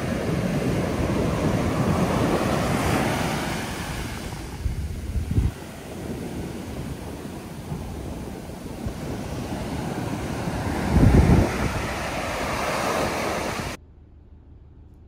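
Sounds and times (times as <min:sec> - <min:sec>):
surf breaking on a beach: 0:00.0 - 0:13.8
wind buffeting microphone: 0:00.0 - 0:13.8.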